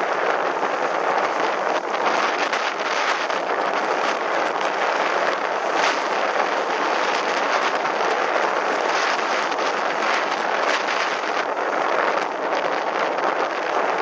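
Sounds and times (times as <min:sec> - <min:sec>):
faint crackles: 0:00.0 - 0:14.0
wind buffeting microphone: 0:00.0 - 0:14.0.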